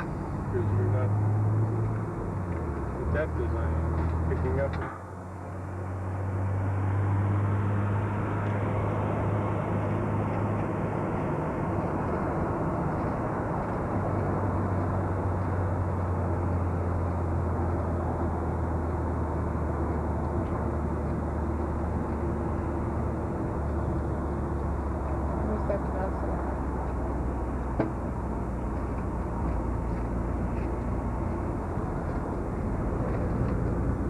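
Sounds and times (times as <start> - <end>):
car engine hum: 0.0 - 34.0
tyre road noise: 0.0 - 34.0.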